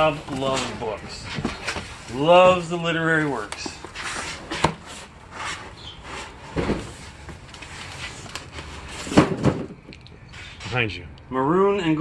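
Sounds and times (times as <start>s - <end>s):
rummaging through boxes: 0.0s - 9.8s.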